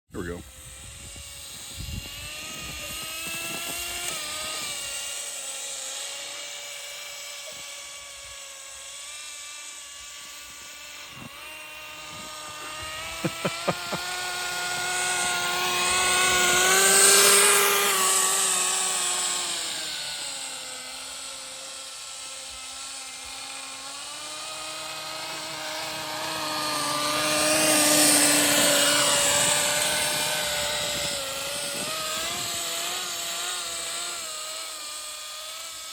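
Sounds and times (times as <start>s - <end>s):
small model engine revving: 0.1s - 35.9s.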